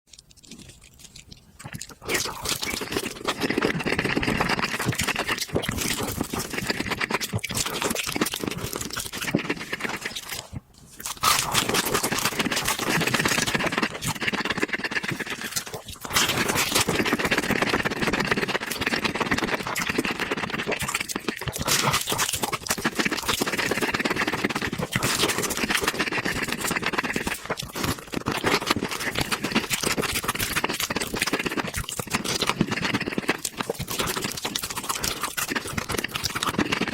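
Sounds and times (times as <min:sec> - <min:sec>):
crunching and chewing: 0:00.1 - 0:36.9.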